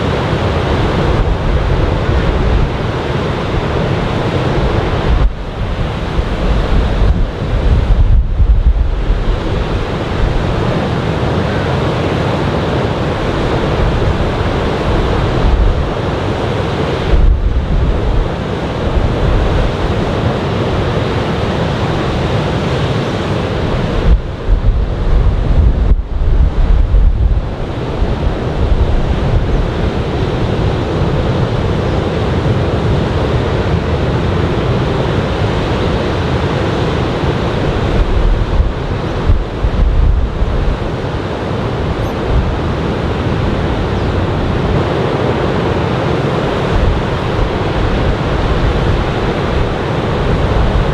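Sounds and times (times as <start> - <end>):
surf breaking on beach: 0.0 - 50.9
wind buffeting microphone: 0.0 - 50.9.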